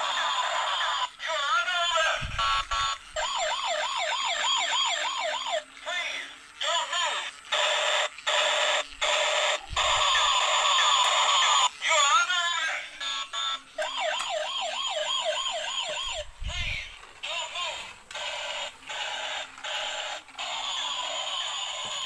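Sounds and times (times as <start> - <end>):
toy siren warbling wail: 0.0 - 5.7, 6.6 - 12.2, 13.0 - 22.0.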